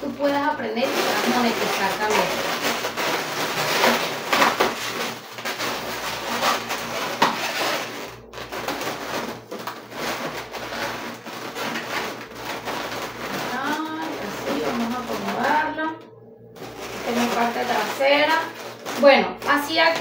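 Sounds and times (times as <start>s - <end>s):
balloons rubbing and squeaking: 0.0s - 15.8s, 16.6s - 20.0s.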